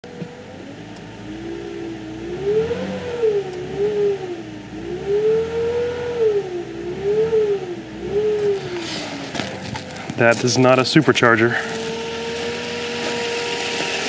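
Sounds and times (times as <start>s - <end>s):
high engine whine: 0.0s - 14.0s.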